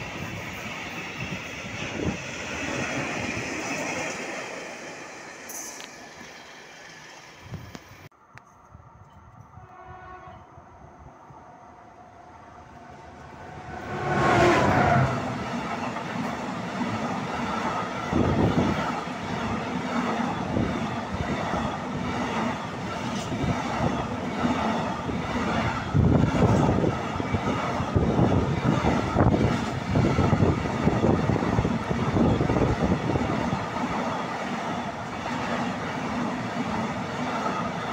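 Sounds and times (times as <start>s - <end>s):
electric locomotive passing: 0.0s - 37.9s.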